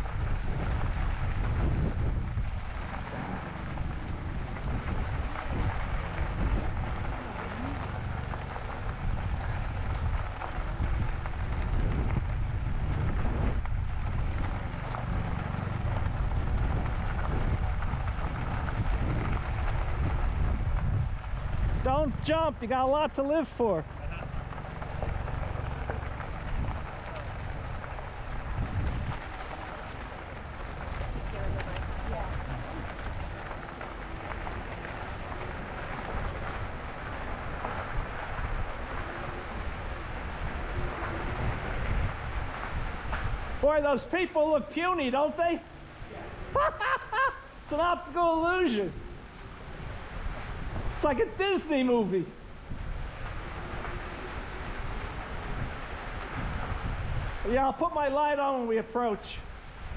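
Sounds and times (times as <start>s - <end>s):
wind rushing over microphone: 0.0s - 57.8s, 59.4s - 59.9s.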